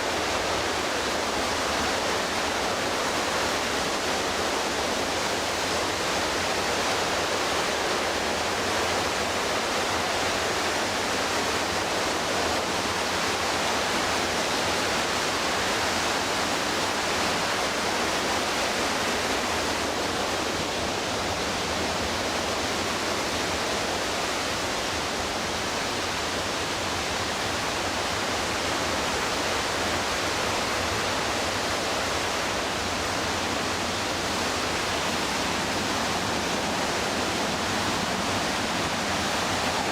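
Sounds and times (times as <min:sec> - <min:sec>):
rushing white water: 0:00.0 - 0:39.9.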